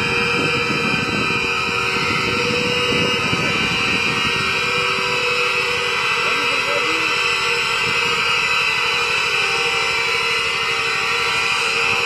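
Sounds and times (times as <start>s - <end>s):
steam locomotive rushing: 0.0s - 12.0s.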